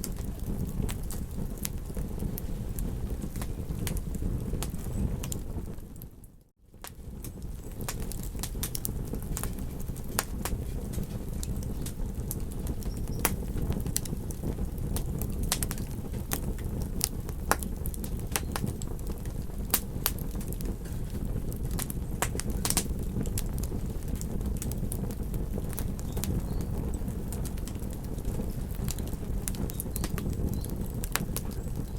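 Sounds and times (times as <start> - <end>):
campfire crackling and popping: 0.0 - 31.9.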